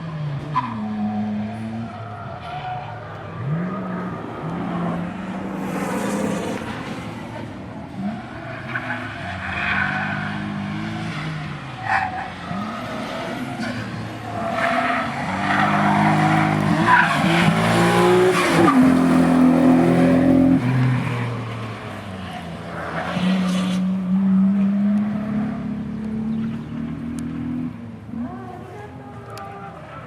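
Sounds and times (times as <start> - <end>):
race car engine revving: 0.3 - 30.0.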